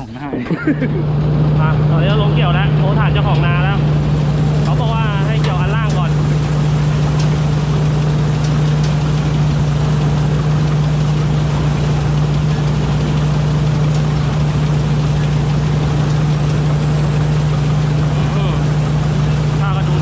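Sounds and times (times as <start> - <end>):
machinery noise: 0.0 - 20.0
combine harvester engine droning: 0.6 - 20.0.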